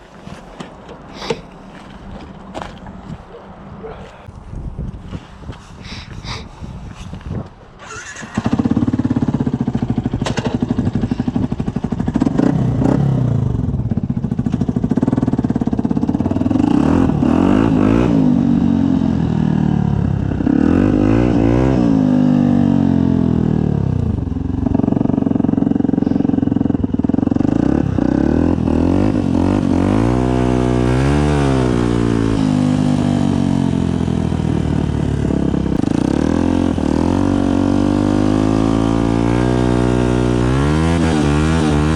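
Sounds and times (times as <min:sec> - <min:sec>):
motorcycle engine revving: 0:07.8 - 0:41.9.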